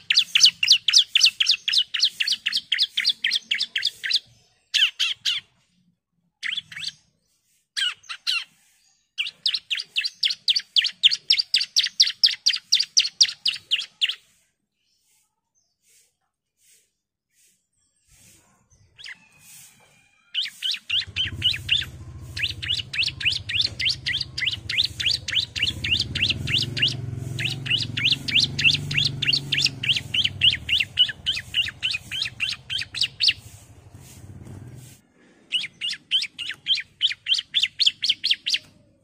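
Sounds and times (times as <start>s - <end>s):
bird singing rapid sharp notes: 0.0s - 5.7s, 6.4s - 16.0s, 20.4s - 38.8s.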